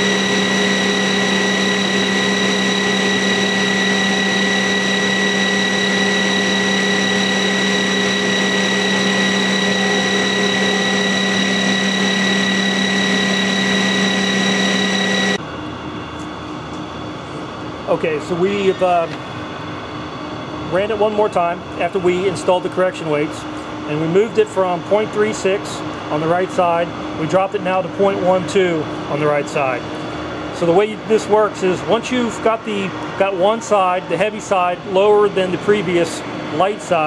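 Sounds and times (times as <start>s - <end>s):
mulcher rotor humming and whining: 0.0s - 37.0s.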